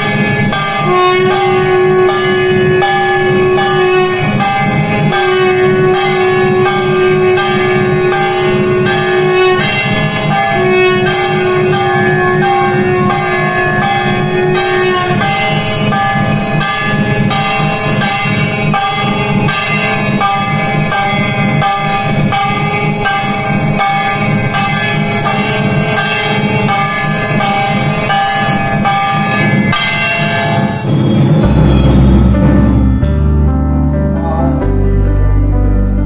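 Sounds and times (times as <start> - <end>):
held tone: 0.0 - 26.7, 27.7 - 33.5
temple bells ringing: 0.0 - 33.4.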